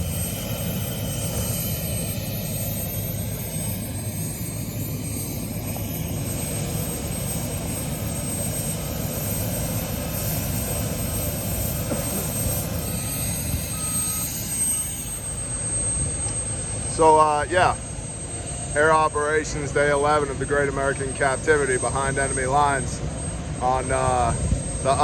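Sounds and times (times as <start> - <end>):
aircraft engine noise in cabin: 0.0 - 25.0.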